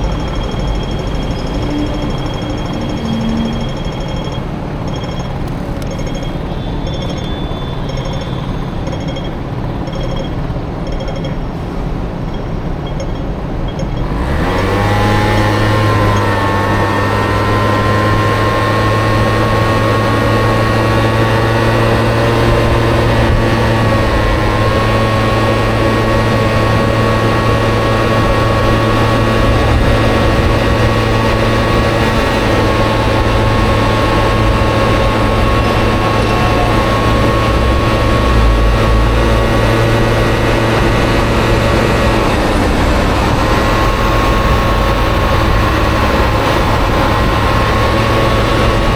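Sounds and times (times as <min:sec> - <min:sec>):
scooter engine droning: 0:00.0 - 0:48.9.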